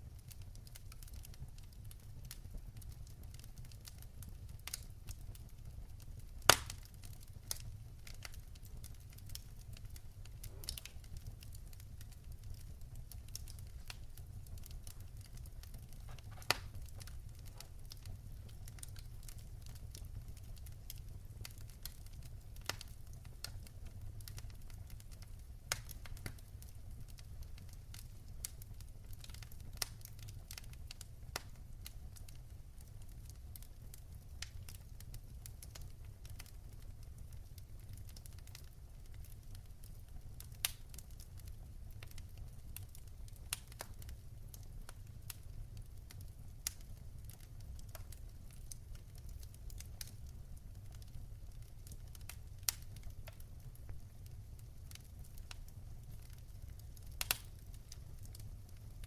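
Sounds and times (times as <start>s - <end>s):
fireplace fire crackling: 0.0s - 59.0s
sharp pops from fire: 0.3s - 32.0s, 38.0s - 41.2s, 41.9s - 51.1s, 51.8s - 58.8s.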